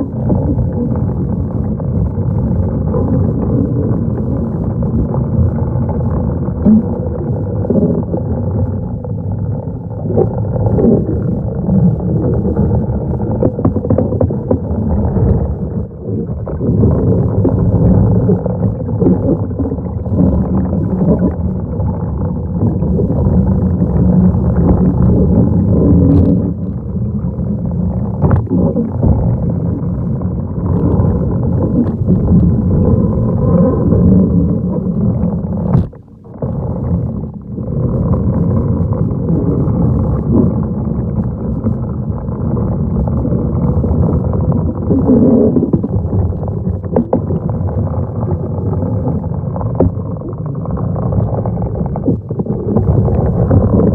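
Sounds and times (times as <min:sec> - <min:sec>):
muffled underwater rumble: 0:00.0 - 0:53.9.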